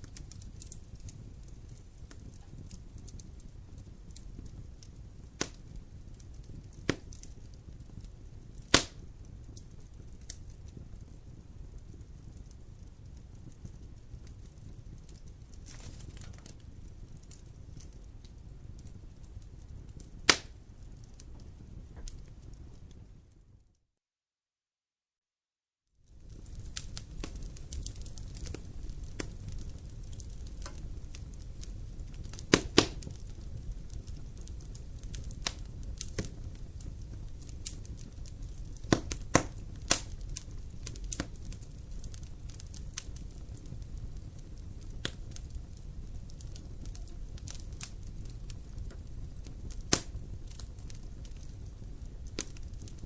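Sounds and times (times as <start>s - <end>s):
sharp fire pops: 0.0s - 23.1s, 26.1s - 53.0s
wood fire crackling: 0.0s - 23.7s, 26.0s - 53.0s.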